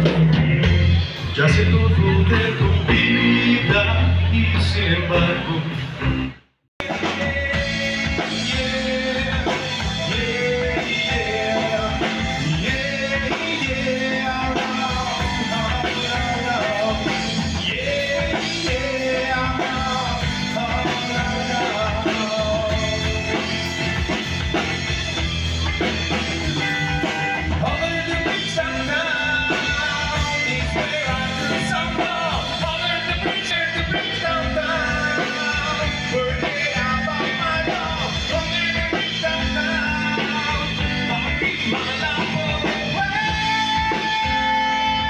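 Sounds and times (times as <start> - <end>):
live rock band playing: 0.0 - 45.0
person singing: 0.8 - 6.0, 6.8 - 45.0.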